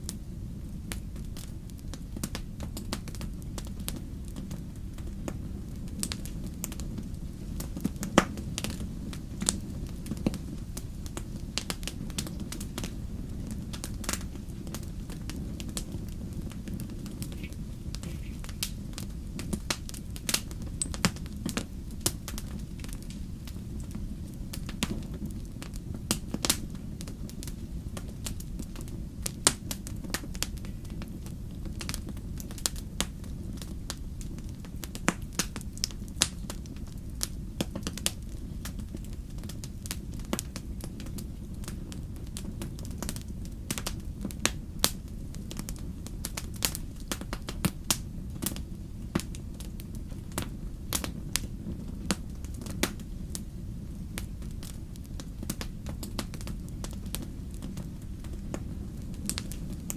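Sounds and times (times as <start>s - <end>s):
campfire crackles and pops: 0.0s - 59.9s
low rumble of flames: 0.0s - 59.9s.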